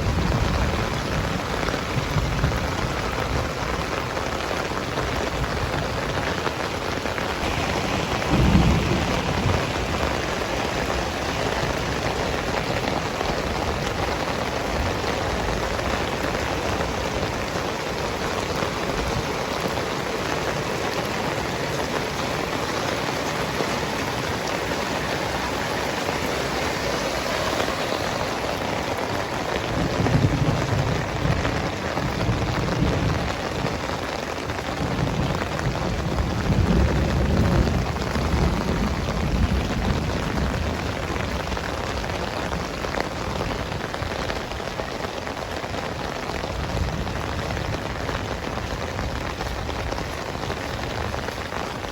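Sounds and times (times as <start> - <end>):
heavy rain falling: 0.0 - 51.9
thunder rumbling: 0.0 - 51.9.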